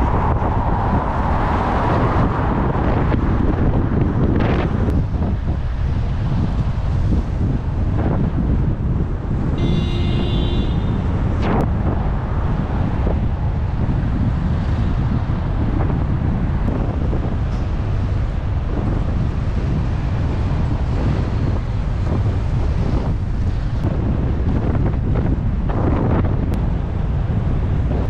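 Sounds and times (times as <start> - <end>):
road traffic rumble: 0.0 - 28.0
wind buffeting microphone: 0.0 - 28.0.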